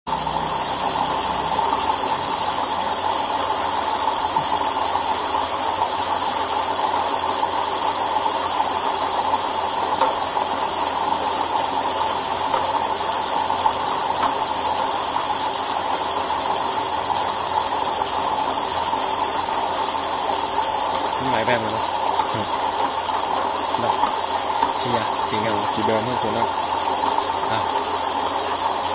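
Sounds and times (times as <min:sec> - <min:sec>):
bicycle wheel whirring: 0:00.1 - 0:28.9.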